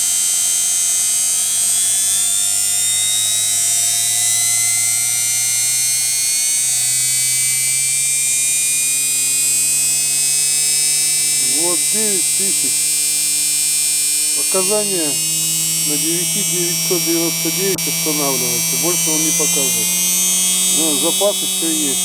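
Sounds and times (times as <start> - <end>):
washing machine motor whine: 0.0 - 22.0.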